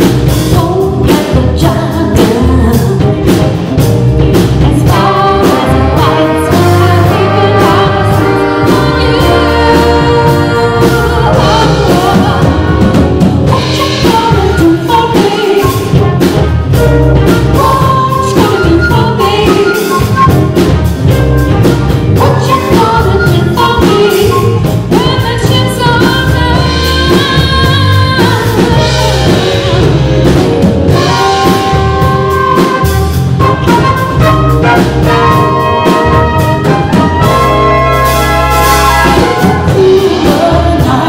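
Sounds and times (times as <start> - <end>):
live funk band playing: 0.0 - 41.0
woman singing lead: 0.1 - 41.0
horn section: 3.8 - 23.2, 26.4 - 41.0.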